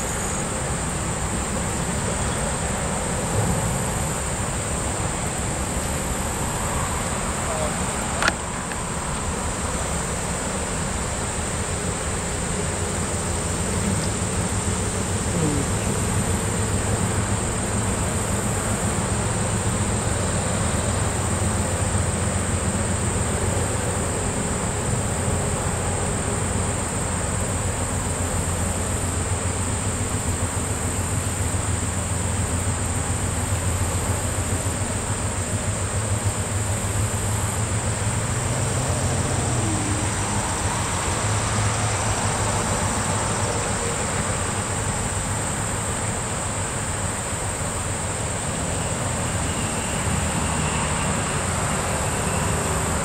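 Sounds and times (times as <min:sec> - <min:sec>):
diesel locomotive engine running: 0:00.0 - 0:53.0
high insect chorus: 0:00.0 - 0:53.0.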